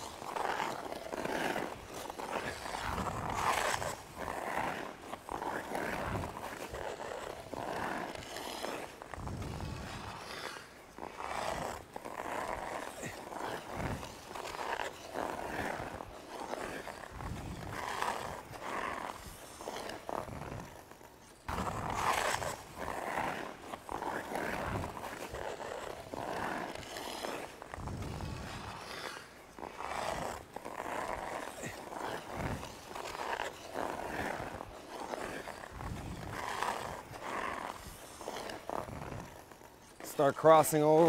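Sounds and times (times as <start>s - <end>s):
skate blades scraping ice: 0.0s - 41.0s.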